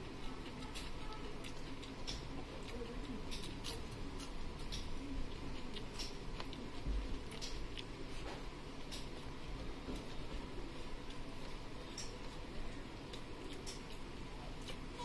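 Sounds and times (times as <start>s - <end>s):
chewing smacks: 0.0s - 15.0s.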